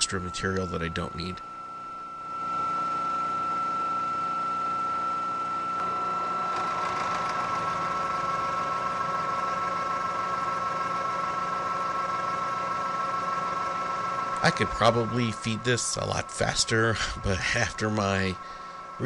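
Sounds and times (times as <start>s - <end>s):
milling machine whining: 0.0s - 19.0s.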